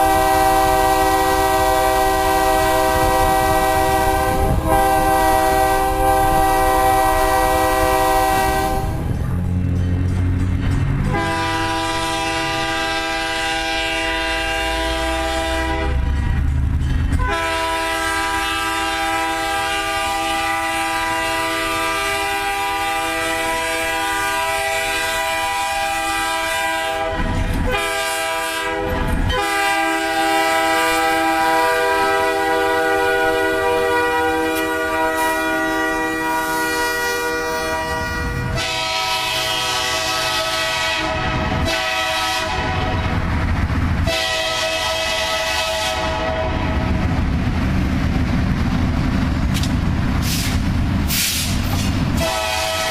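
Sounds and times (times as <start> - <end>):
locomotive air horn blasts: 0.0 - 9.1, 11.1 - 16.2, 17.2 - 43.2, 44.0 - 47.0, 52.2 - 52.9.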